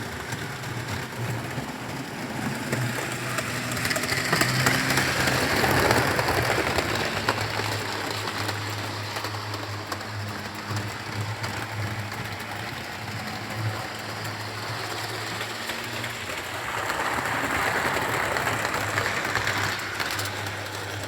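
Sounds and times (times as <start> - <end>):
model train motor hum: 0.0 - 21.0
wheel and track rattle: 0.0 - 21.0.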